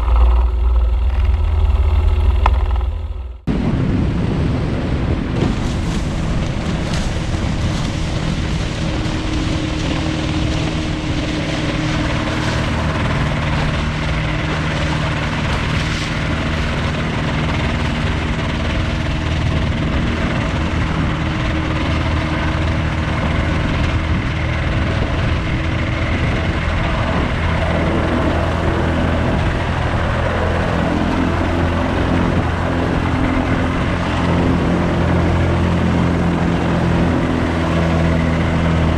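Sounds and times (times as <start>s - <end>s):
engine and propeller running: 0.0s - 38.9s
rushing air: 0.0s - 38.9s.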